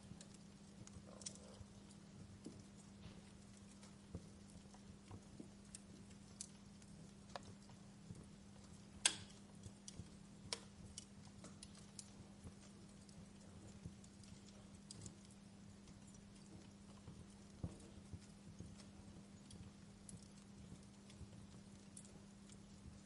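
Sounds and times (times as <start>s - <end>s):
faint steady hum: 0.0s - 23.0s
wood fire crackling: 0.0s - 23.0s.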